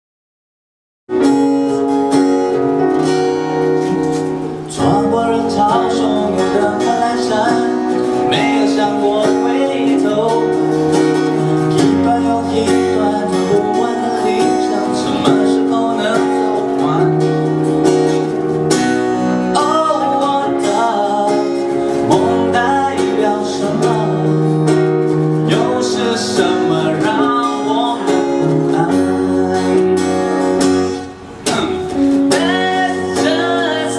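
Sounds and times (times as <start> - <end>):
acoustic guitar playing: 1.1 - 33.9
person singing: 4.6 - 18.4, 19.2 - 33.9.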